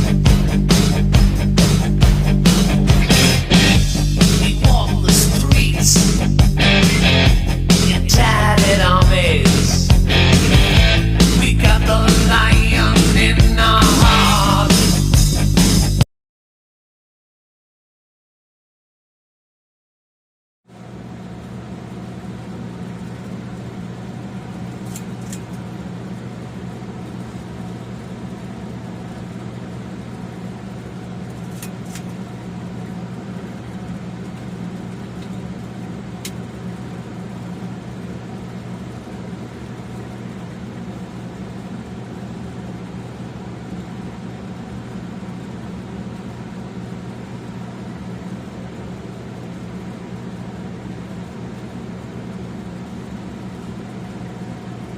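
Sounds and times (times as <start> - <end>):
ceiling fan motor humming: 0.0 - 16.0, 20.7 - 54.9.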